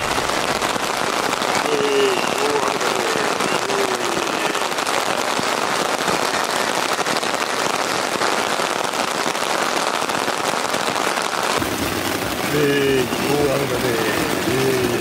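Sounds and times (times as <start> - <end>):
heavy rain on a tent: 0.0 - 15.0.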